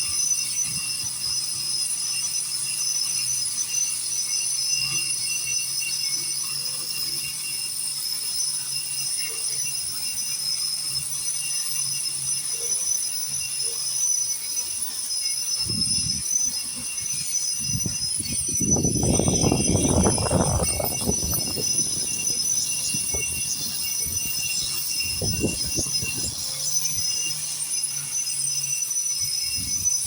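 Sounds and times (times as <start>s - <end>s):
grinder rattling on concrete: 0.0s - 30.0s
power grinder whine: 0.0s - 30.0s.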